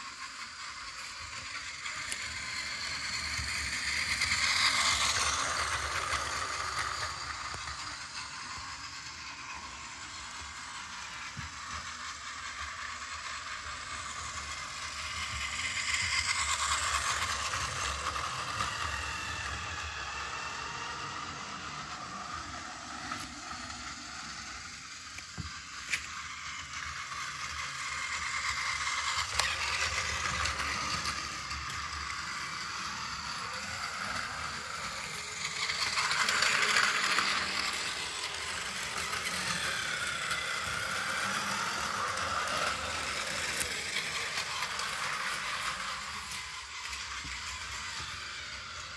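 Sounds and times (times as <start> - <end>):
toy train motor whirring: 0.0 - 48.9.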